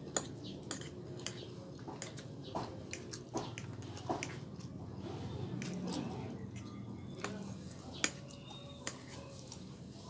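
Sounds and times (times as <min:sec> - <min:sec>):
man chewing noodles: 0:00.0 - 0:09.8.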